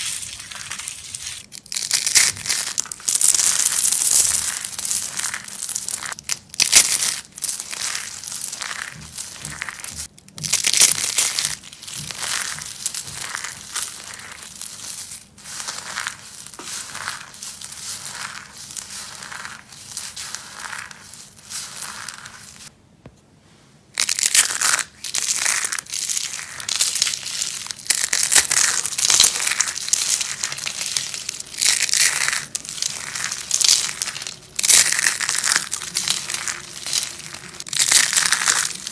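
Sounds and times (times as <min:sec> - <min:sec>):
soap crunching: 0:00.0 - 0:22.7, 0:24.0 - 0:38.9.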